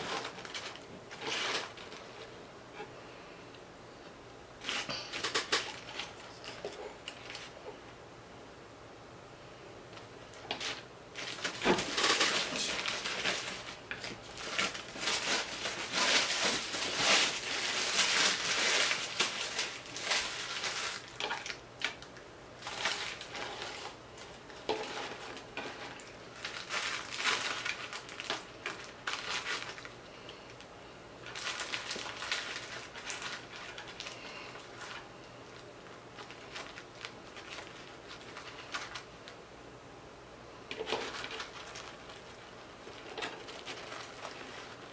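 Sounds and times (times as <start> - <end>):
paper wrappers crinkling: 0.0 - 2.9, 4.6 - 7.7, 10.4 - 39.4, 40.7 - 44.9.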